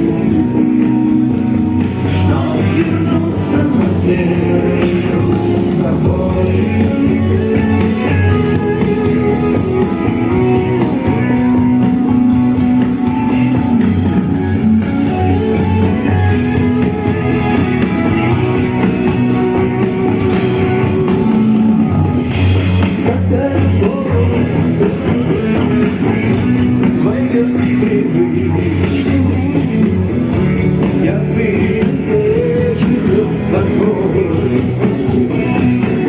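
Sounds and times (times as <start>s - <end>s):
rock music: 0.0s - 36.0s.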